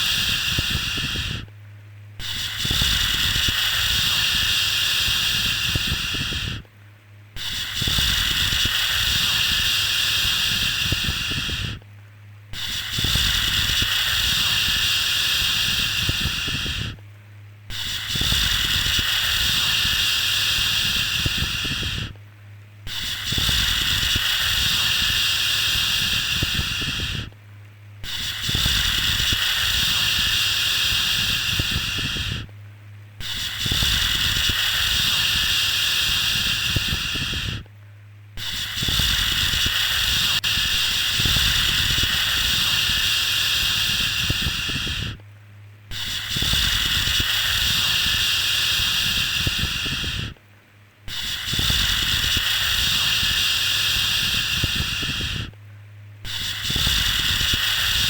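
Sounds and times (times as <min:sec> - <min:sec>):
shushing hiss: 0:00.0 - 0:11.9, 0:12.5 - 0:17.1, 0:17.7 - 0:22.2, 0:22.8 - 0:27.4, 0:28.0 - 0:50.4, 0:51.0 - 0:55.6, 0:56.2 - 0:58.0.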